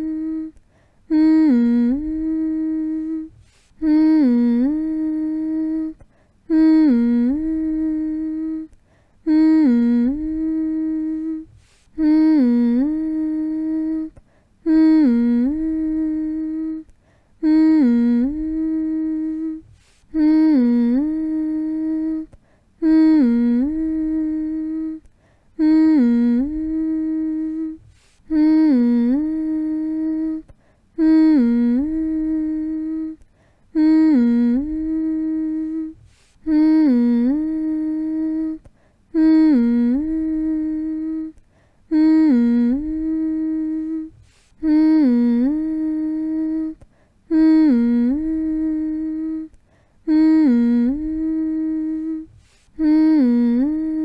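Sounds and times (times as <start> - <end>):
person humming a phrase: 0.0 - 54.0.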